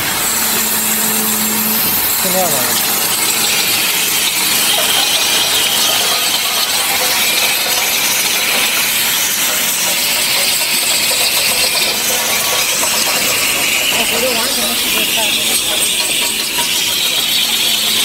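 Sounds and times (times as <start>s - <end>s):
machine steady mechanical hiss: 0.0s - 18.0s.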